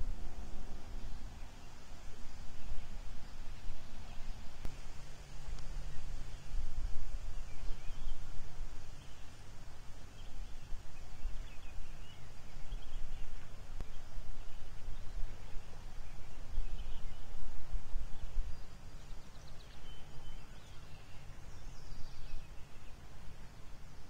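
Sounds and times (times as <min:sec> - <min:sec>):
wind buffeting microphone: 0:00.0 - 0:20.5.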